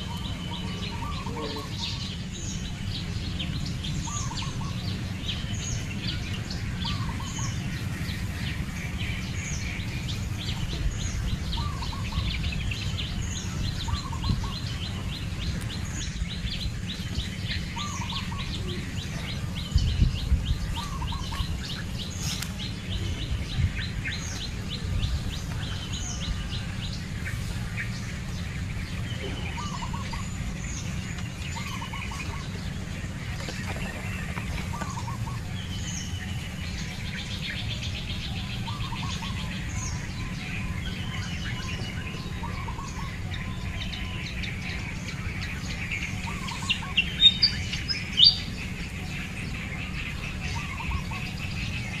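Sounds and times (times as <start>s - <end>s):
lower paired bird chirps: 0.0s - 52.0s
steady low rumble: 0.0s - 52.0s.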